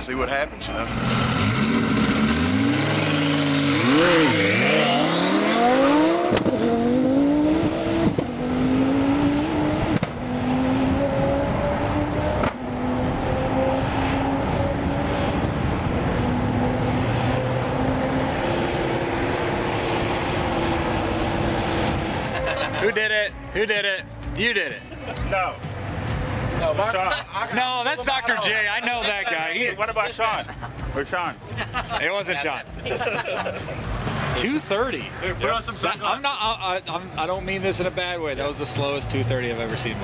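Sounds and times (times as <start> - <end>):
sports cars accelerating: 0.8 - 29.2, 32.6 - 40.0.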